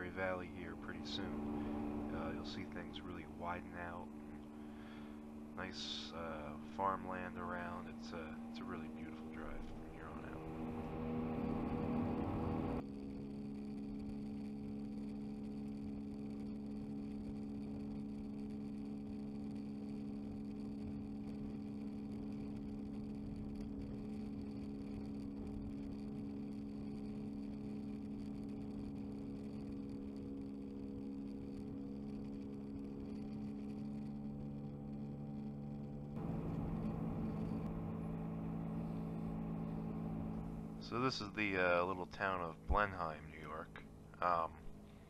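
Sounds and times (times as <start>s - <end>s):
car cruising drone: 0.0s - 45.0s.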